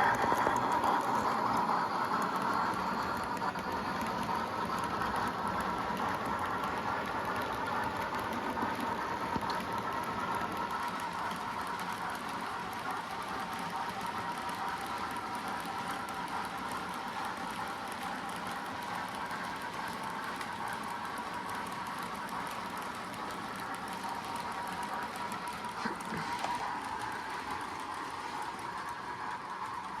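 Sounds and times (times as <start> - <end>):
model train running on track: 0.0 - 30.0.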